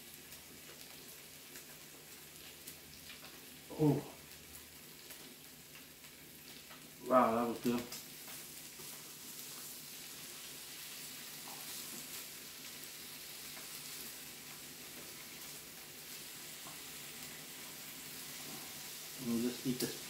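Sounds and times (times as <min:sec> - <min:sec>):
meat sizzling on a grill: 0:00.0 - 0:20.0.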